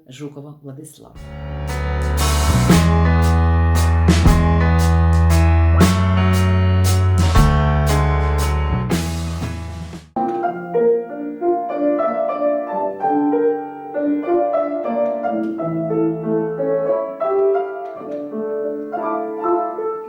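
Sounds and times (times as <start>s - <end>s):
piano melody over bass notes: 1.2s - 20.0s.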